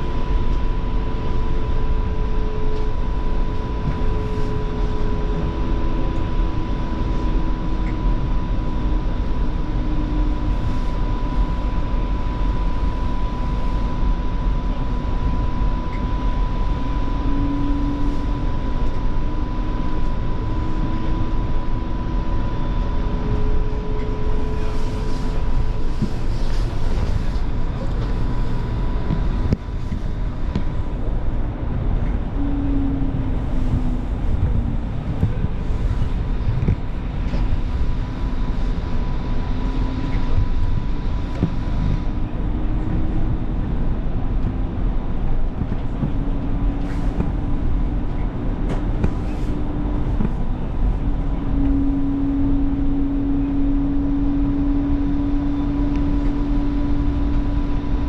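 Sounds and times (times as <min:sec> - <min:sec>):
light rail wheels rumbling: 0:00.0 - 0:58.0.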